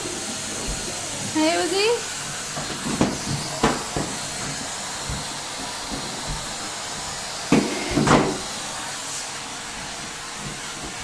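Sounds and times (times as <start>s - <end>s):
vacuum cleaner hissing: 0.0s - 11.0s.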